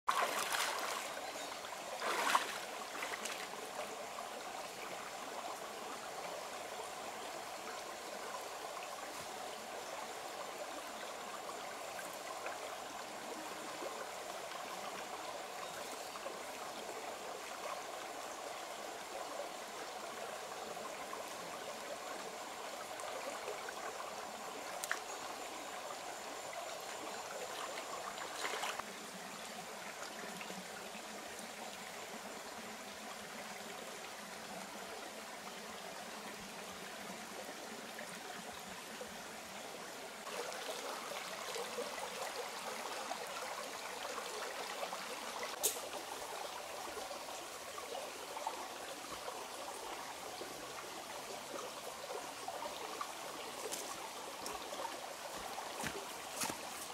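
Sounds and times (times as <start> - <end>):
stream running over rocks: 0.1 - 56.9.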